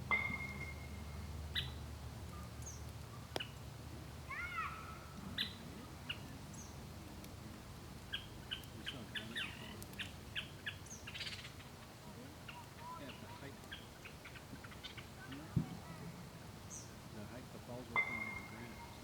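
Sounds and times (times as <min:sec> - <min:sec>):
low steady background noise: 0:00.0 - 0:19.0
small birds chirping: 0:00.0 - 0:19.0.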